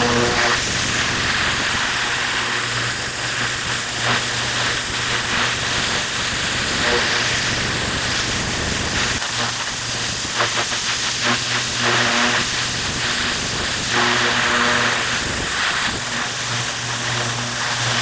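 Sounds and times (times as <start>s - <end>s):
pressure washer jet hissing on gravel: 0.0s - 18.0s
steady low hum: 0.0s - 18.0s.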